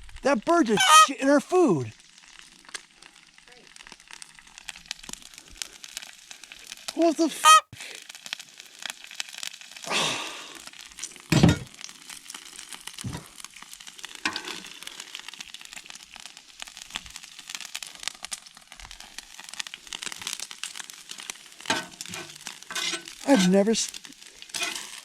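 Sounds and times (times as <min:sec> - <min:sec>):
bacon sizzling and crackling: 0:00.0 - 0:25.0.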